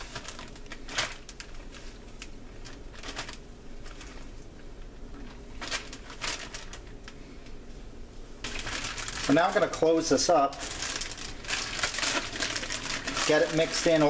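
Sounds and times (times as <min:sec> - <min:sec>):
plastic bag crinkling: 0:00.0 - 0:07.6, 0:08.4 - 0:14.0.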